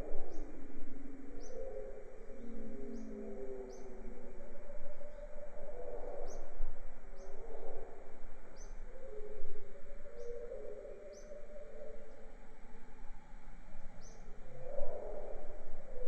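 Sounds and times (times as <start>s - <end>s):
jungle background noise: 0.0s - 16.0s.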